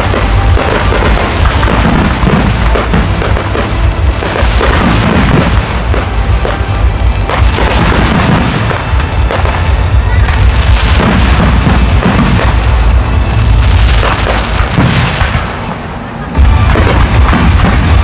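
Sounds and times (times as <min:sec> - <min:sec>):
loud music: 0:00.0 - 0:15.4, 0:16.3 - 0:18.0
fireworks booming and crackling: 0:00.0 - 0:18.0
low rumble: 0:00.0 - 0:18.0.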